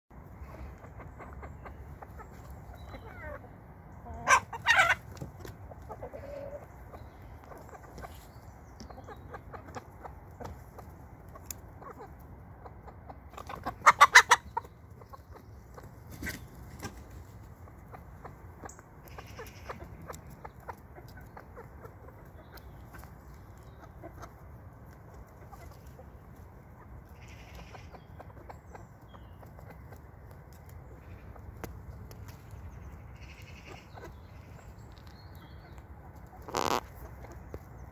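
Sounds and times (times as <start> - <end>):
chickens clucking: 0.1 - 37.9.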